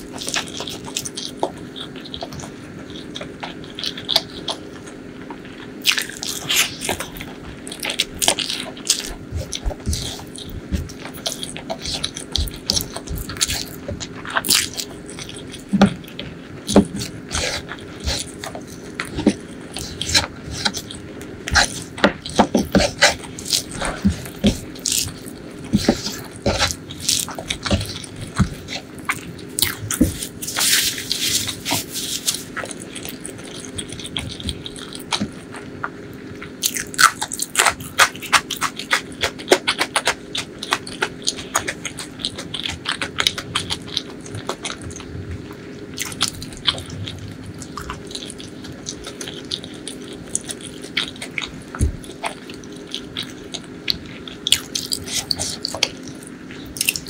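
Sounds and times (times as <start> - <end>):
wet chewing and crunchy bites: 0.0 - 57.0.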